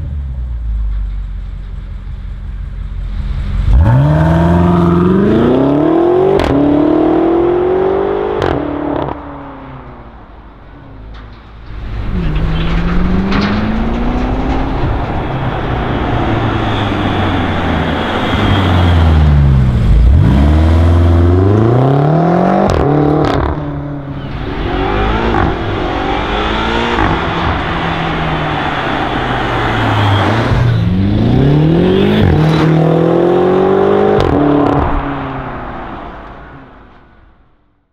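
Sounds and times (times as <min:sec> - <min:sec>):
car engine accelerating hard: 0:03.0 - 0:09.6, 0:12.1 - 0:36.4.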